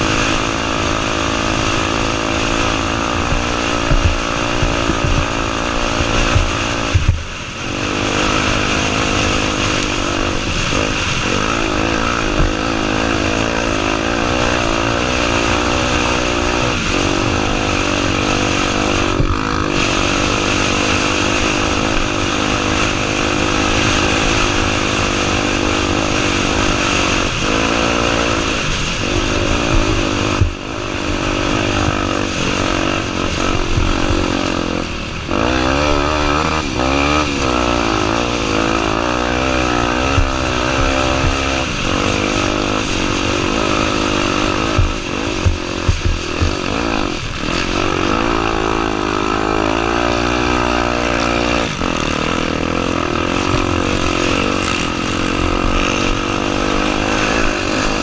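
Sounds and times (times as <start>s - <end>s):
motorcycle engine under load: 0.0s - 58.0s.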